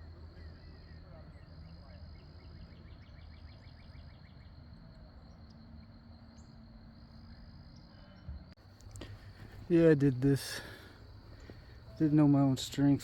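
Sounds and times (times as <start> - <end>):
distant traffic rumble: 0.0 - 13.0.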